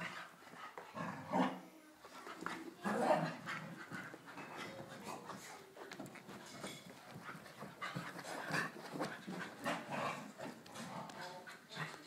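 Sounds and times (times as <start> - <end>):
dogs panting: 0.0 - 1.2, 2.0 - 12.0
dogs scuffling: 2.0 - 12.0.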